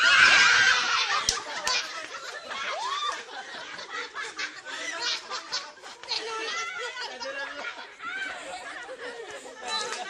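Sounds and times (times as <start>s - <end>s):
people laughing: 0.0s - 10.0s
people chatting: 0.7s - 10.0s.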